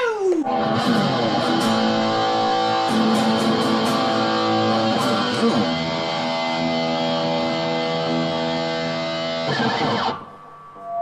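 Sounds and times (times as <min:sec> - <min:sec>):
distorted electric guitar chords: 0:00.4 - 0:11.0.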